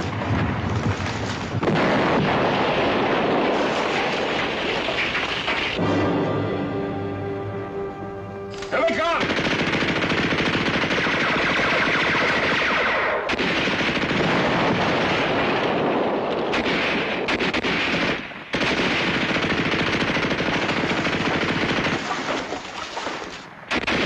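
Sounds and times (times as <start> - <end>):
machine-gun fire: 0.0 - 5.8, 9.1 - 22.5, 23.7 - 24.0
rifle shots: 0.0 - 5.8, 8.5 - 24.0.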